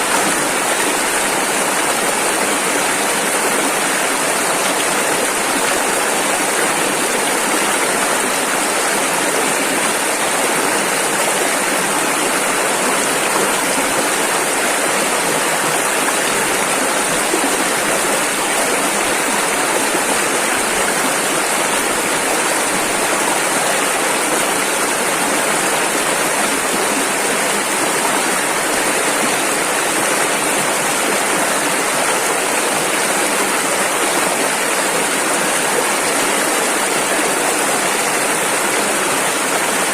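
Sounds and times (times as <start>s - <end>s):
rushing river rapids: 0.0s - 39.9s.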